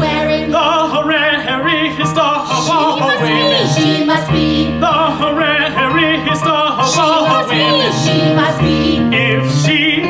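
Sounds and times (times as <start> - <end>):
operatic singing with vibrato: 0.0 - 10.0
piano accompaniment: 0.0 - 10.0.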